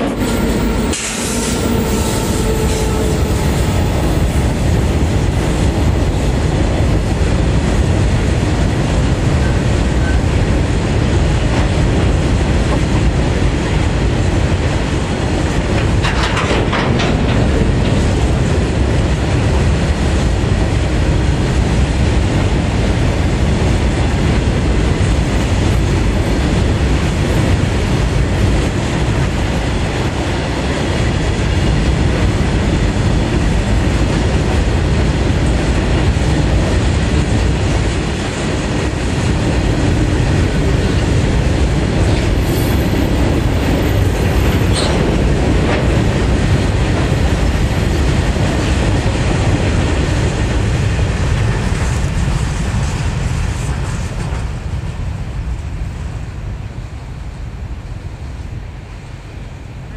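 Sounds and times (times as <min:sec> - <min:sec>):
sharp train clanks: 0:00.0 - 0:55.9
freight train wheels rumbling: 0:00.0 - 0:59.9.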